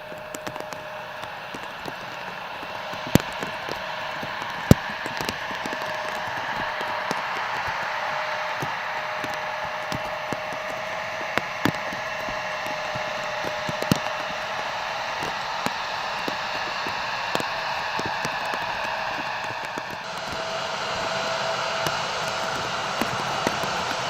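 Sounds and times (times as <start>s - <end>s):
heavy rain hiss: 0.0s - 24.0s
raindrops ticking close by: 0.0s - 24.0s
steady hum: 0.0s - 24.0s.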